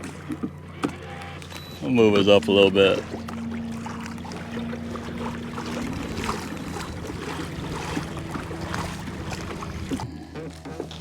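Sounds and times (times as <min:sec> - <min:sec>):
electric motor humming: 0:00.0 - 0:10.1
water splashing and lapping: 0:00.0 - 0:11.0.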